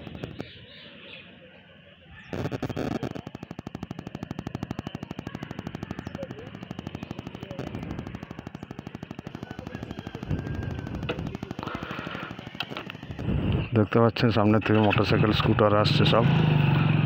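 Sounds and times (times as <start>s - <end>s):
motorbike engine puttering: 0.0s - 0.6s, 2.4s - 13.7s, 14.5s - 17.0s.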